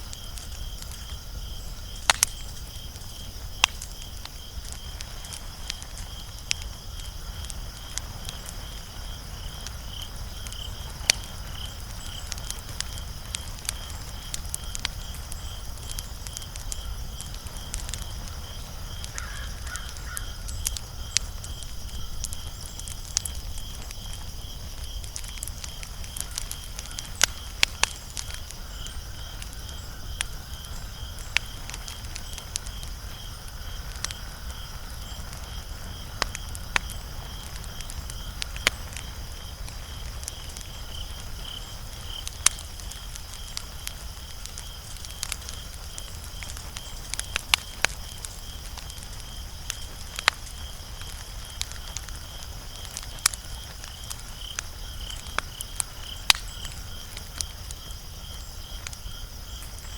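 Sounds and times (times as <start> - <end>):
insects trilling: 0.0 - 59.9
wood fire crackling and popping: 0.0 - 59.9.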